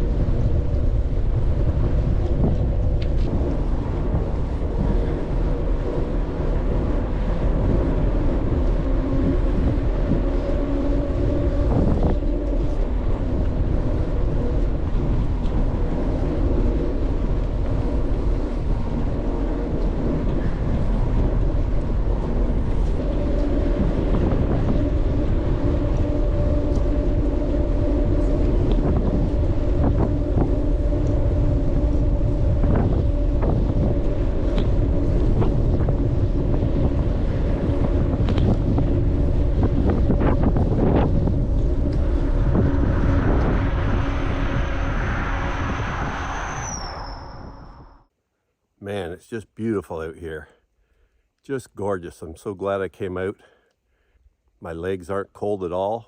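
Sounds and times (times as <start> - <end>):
steady low hum: 0.0 - 48.1
wind rushing over microphone: 0.0 - 48.1.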